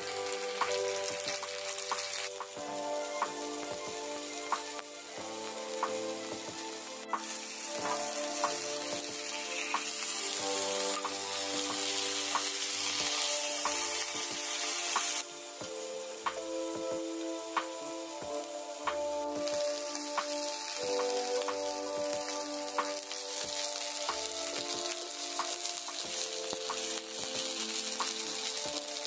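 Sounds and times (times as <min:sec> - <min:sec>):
fish fillets sizzling in oil: 0:00.0 - 0:29.0
spatula turning food in pan: 0:00.0 - 0:29.0.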